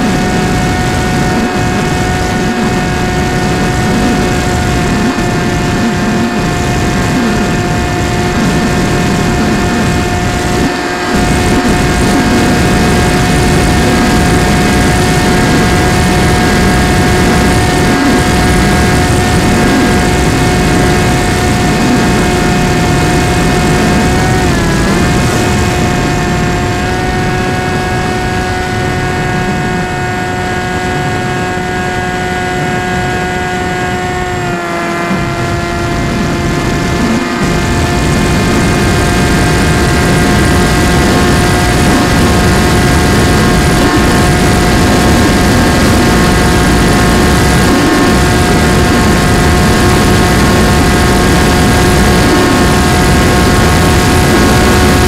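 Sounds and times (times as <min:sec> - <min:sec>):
model airplane motor whining: 0:00.0 - 0:55.0
wind rushing over microphone: 0:00.0 - 0:55.0.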